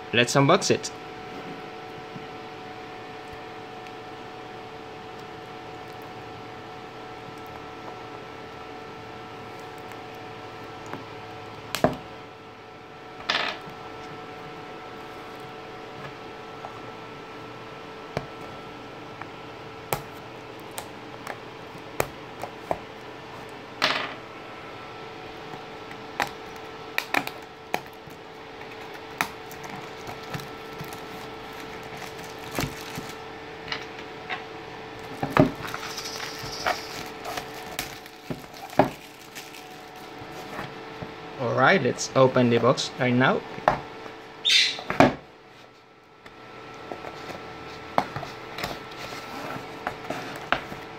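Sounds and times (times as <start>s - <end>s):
steady background hum: 0.0s - 50.9s.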